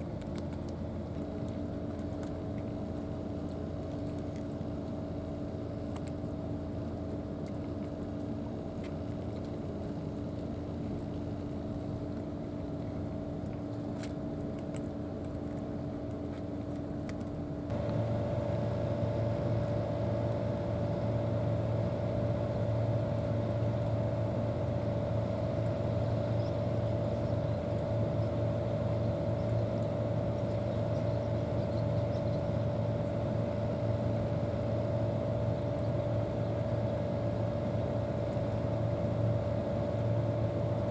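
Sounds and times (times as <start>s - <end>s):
boat engine droning: 0.0s - 40.9s.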